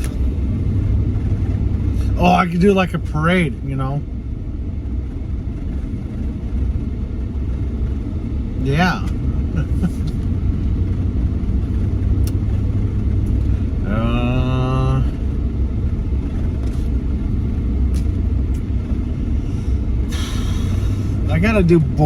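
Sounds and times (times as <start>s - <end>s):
vehicle driving low rumble: 0.0s - 22.0s.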